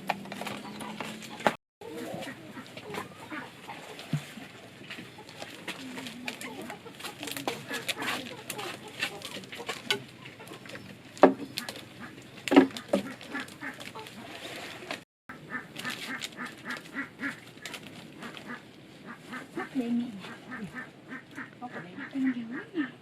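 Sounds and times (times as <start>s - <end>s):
waterfowl honking: 0.7s - 22.9s.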